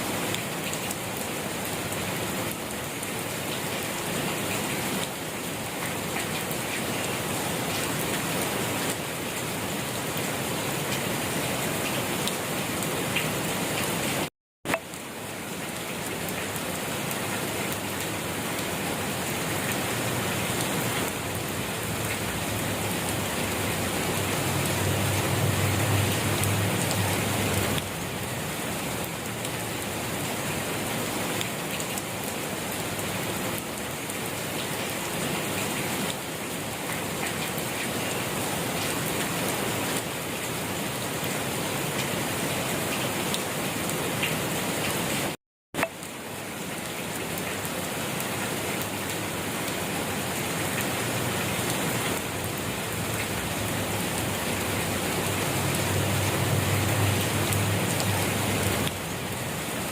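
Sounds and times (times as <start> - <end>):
gentle rain pattering: 0.0 - 59.9.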